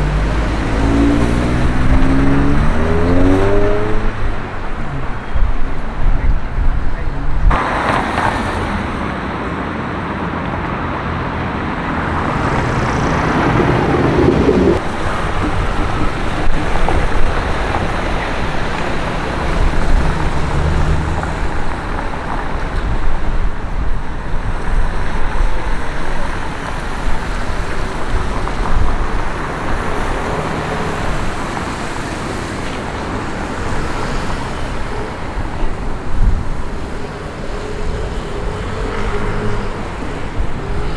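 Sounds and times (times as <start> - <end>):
vehicles driving past: 0.0 - 40.9.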